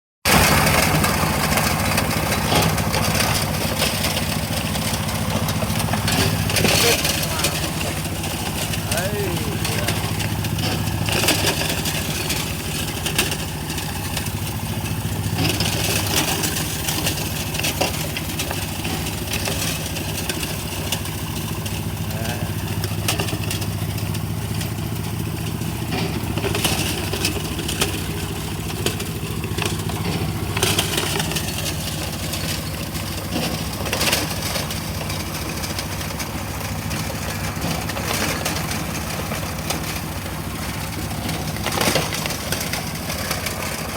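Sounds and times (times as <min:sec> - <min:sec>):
rocks cracking and rattling: 0:00.3 - 0:43.9
stone crusher engine humming: 0:00.3 - 0:43.9.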